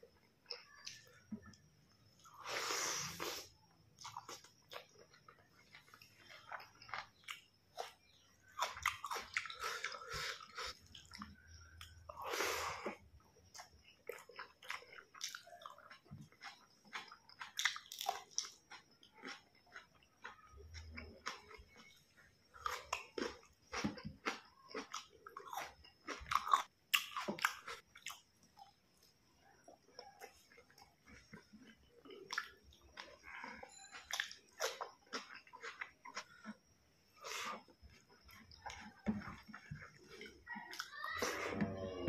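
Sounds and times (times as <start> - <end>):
person chewing: 0.1 - 42.0.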